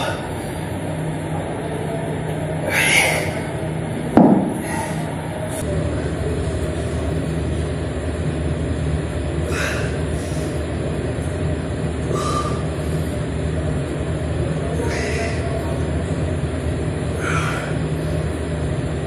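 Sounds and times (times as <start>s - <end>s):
low rumbling hum: 0.0s - 19.0s.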